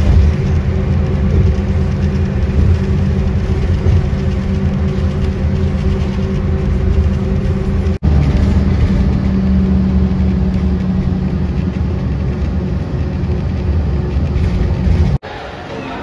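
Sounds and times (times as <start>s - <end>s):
low engine rumble with hum: 0.0s - 15.2s.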